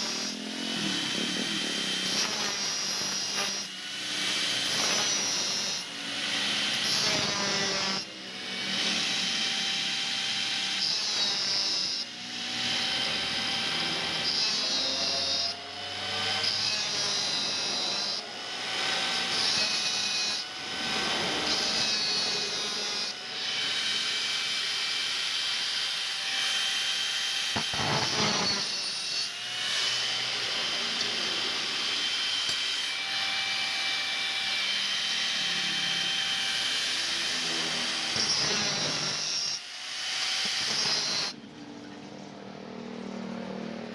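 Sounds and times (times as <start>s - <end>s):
power tool grinding steel: 0.0s - 41.4s.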